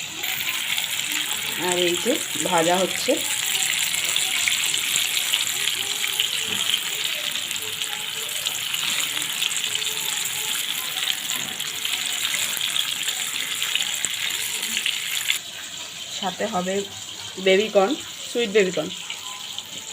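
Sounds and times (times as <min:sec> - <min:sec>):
chicken deep-frying in oil: 0:00.0 - 0:19.9.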